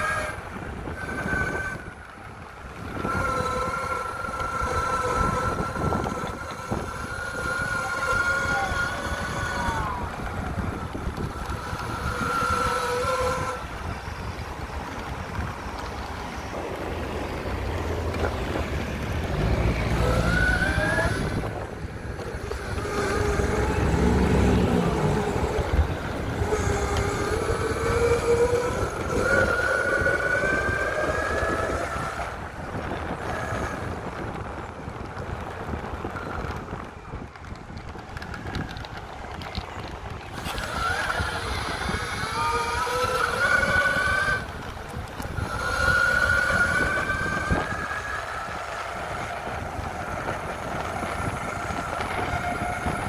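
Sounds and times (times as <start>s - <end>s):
electric motors whining: 0.0s - 53.0s
off-road wheels rumbling: 0.0s - 53.0s.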